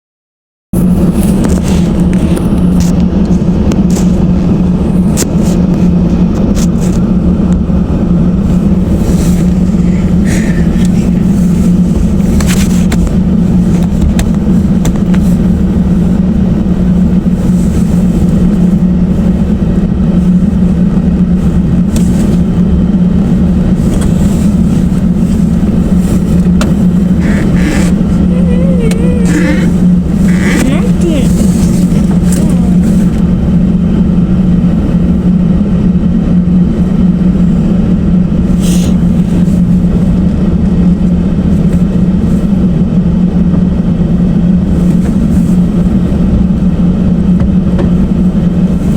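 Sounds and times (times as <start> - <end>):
low mechanical drone: 0.7 - 48.9.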